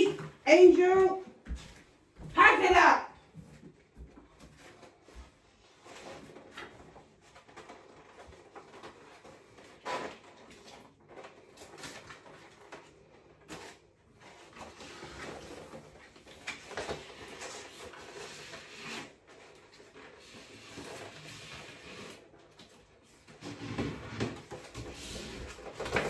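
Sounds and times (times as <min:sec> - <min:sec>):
sticker sheets rustling and crinkling: 0:02.5 - 0:26.0.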